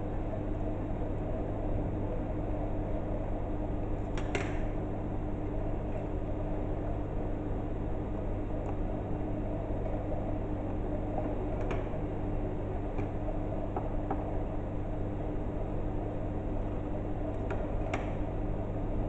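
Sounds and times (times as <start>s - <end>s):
fan or motor humming: 0.0s - 19.0s.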